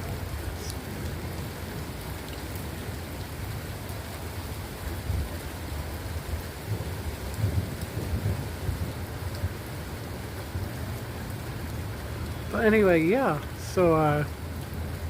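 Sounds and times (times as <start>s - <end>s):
low rumble of thunder: 0.0s - 12.5s
steady rain falling: 0.0s - 15.0s.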